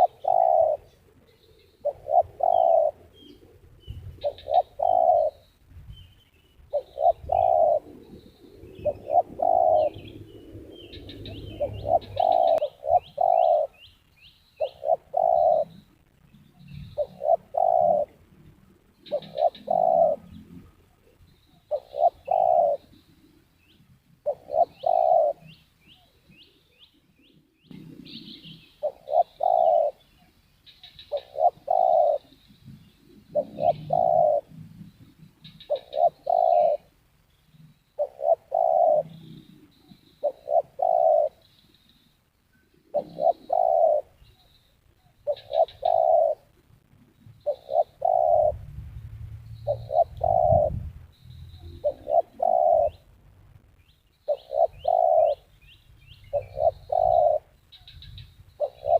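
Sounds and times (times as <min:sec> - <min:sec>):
doves cooing: 0:00.0 - 0:05.5, 0:06.7 - 0:13.9, 0:14.6 - 0:15.9, 0:16.6 - 0:23.4, 0:24.2 - 0:26.8, 0:27.6 - 0:36.9, 0:38.0 - 0:41.6, 0:42.6 - 0:46.6, 0:47.4 - 0:48.8, 0:49.6 - 0:53.2, 0:54.3 - 0:55.6, 0:56.2 - 0:58.9
small birds chirping: 0:00.0 - 0:58.9.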